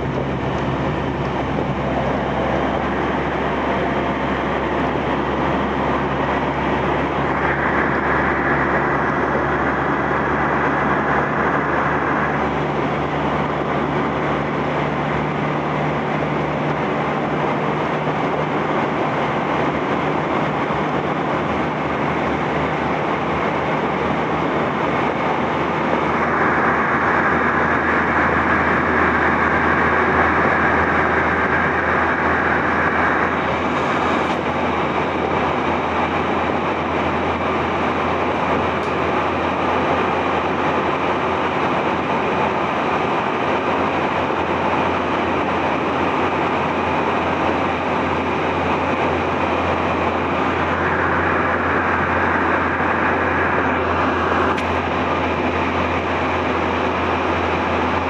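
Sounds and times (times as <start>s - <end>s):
high-pitched whine: 0.0s - 58.0s
train wheels rumbling: 0.0s - 58.0s.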